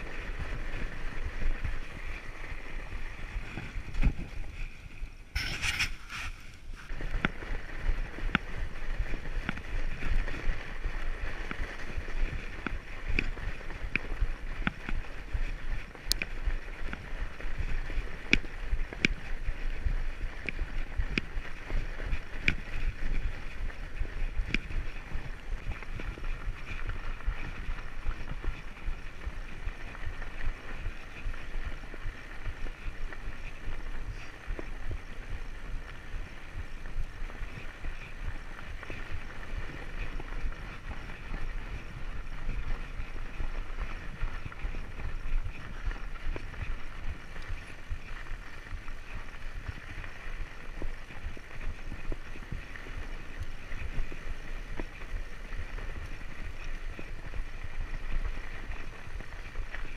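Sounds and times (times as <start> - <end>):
bike tyres rolling over snow: 0.0 - 59.9.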